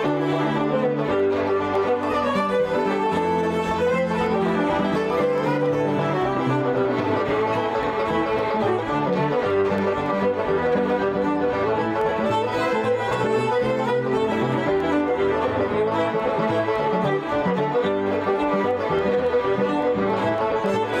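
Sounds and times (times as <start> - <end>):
banjo: 0.0 - 21.0
fiddles: 0.0 - 21.0
piano: 0.0 - 21.0.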